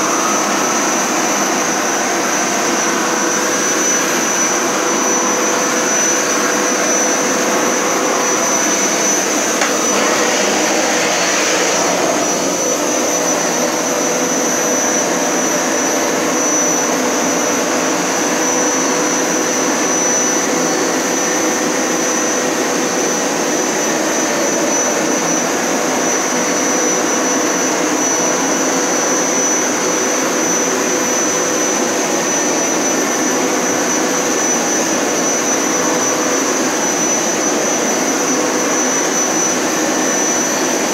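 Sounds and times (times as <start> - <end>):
carpet cleaner running: 0.0 - 40.9.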